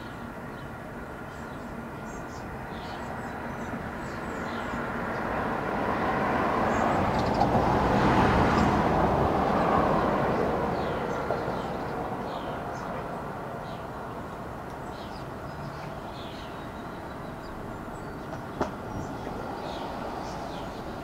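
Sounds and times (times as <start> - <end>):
vehicle passing: 4.0 - 21.0.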